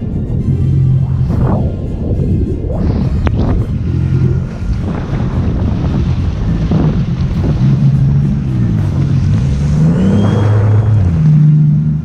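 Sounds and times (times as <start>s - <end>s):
jet ski engine running: 0.0s - 12.0s
wind buffeting microphone: 0.0s - 12.0s.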